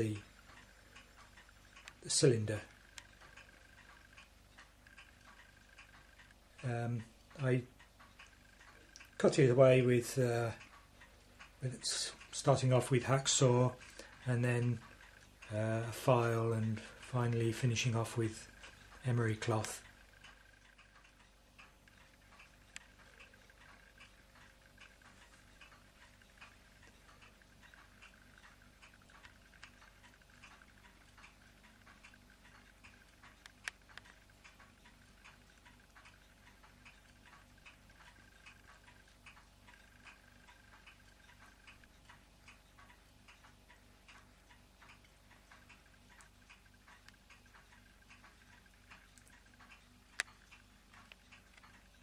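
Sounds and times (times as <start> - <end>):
faint regular ticking: 0.0 - 52.0.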